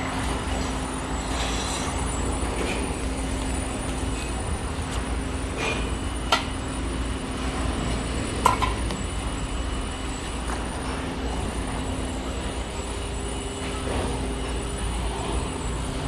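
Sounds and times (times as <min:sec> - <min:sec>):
carriage rolling along rail: 0:00.0 - 0:16.0.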